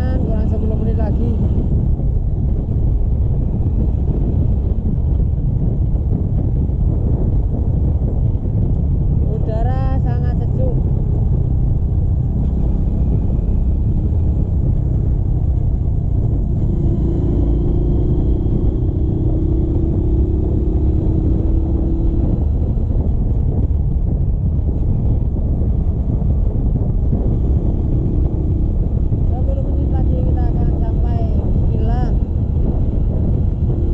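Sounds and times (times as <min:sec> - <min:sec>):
motorcycle engine rumble: 0:00.0 - 0:33.9
wind buffeting microphone: 0:00.0 - 0:33.9.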